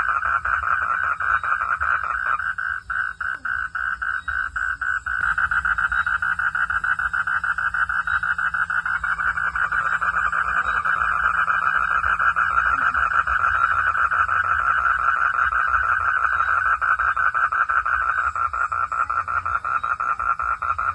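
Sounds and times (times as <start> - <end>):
frogs calling in chorus: 0.0 - 20.9.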